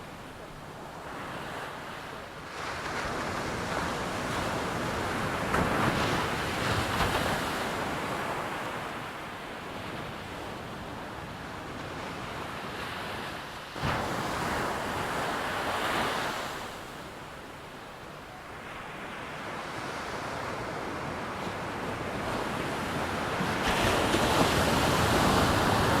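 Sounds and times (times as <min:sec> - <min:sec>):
ocean surf on a beach: 0:00.0 - 0:26.0.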